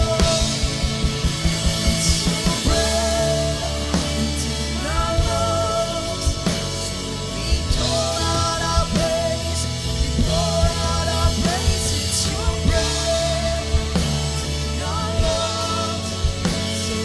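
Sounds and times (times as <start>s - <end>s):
drums steady beat: 0.0s - 17.0s.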